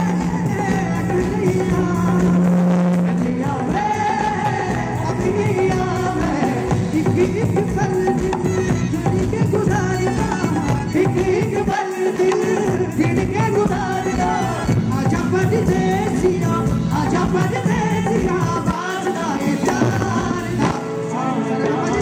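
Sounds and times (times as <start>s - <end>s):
live band with keyboards: 0.0s - 22.0s
men singing into microphones: 0.0s - 22.0s.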